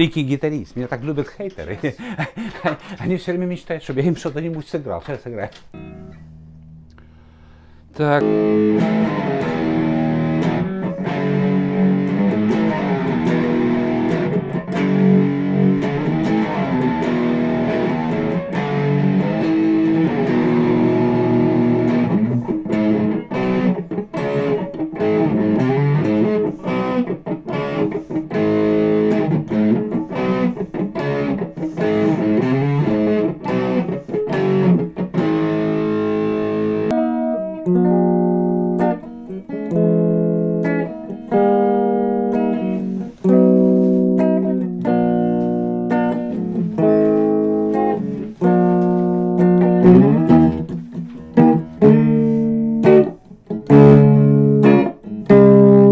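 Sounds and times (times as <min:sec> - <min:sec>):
electric guitar through amplifier: 0:05.6 - 0:55.9.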